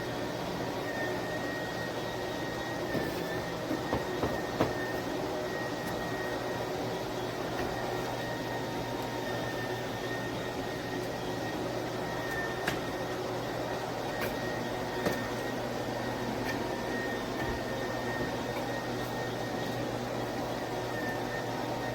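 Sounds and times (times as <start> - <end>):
spin mop motor whining: 0.8 - 21.9.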